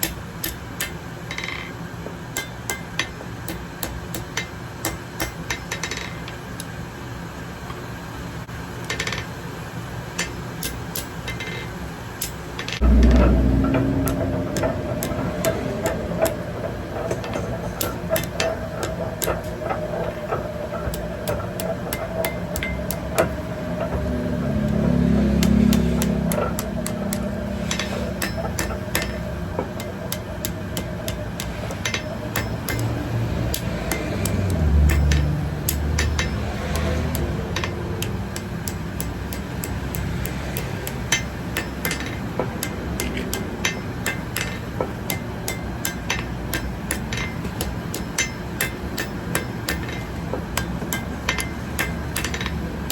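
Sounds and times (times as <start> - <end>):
hammer striking metal on anvil: 0.0 - 6.4, 10.2 - 52.9
steady hum: 6.5 - 52.9.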